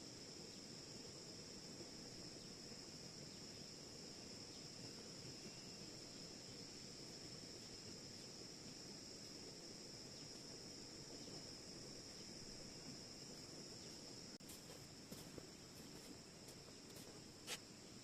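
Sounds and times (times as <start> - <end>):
insect chorus trilling: 0.0 - 18.0.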